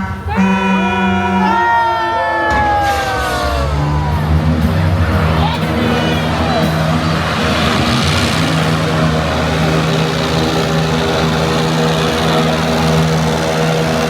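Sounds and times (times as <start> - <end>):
jet ski engines running: 0.0 - 14.0.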